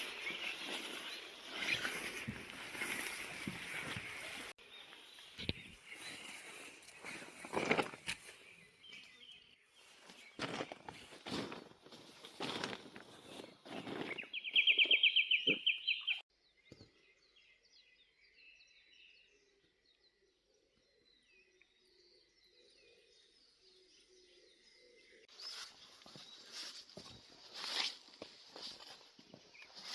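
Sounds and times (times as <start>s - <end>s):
faint birdsong: 0.0s - 29.9s.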